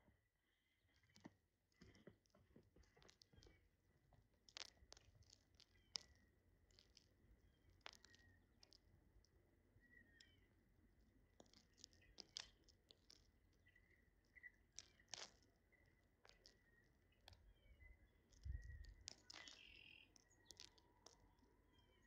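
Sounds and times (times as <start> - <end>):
small birds chirping: 0.6 - 22.0
birds pecking clicks: 2.8 - 3.7, 4.4 - 22.0.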